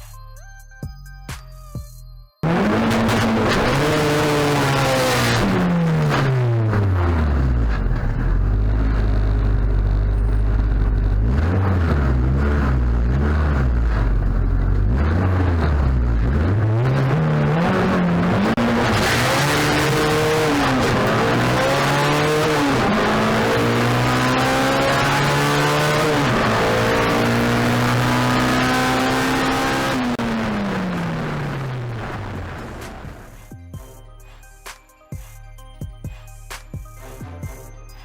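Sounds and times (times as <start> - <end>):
turbocharged car engine accelerating: 2.4 - 33.4.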